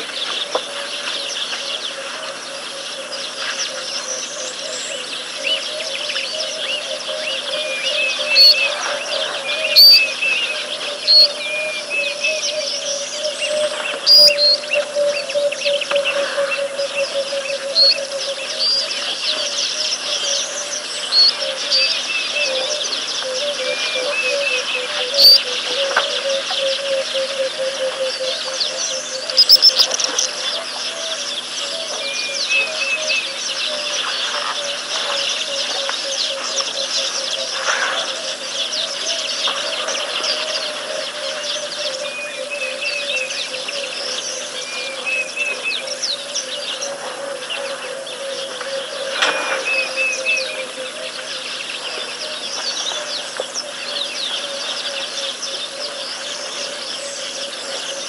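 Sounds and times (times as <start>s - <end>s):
wild bird calls and chirps: 0.0s - 58.0s.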